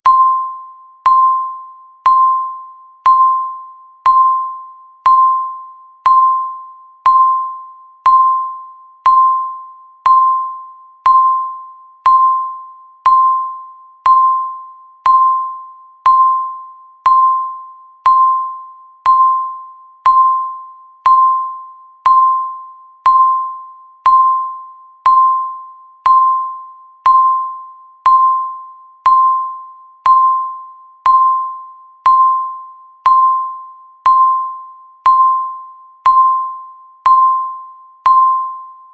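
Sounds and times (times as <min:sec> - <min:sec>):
timer electronic beep: 0:00.0 - 0:38.9.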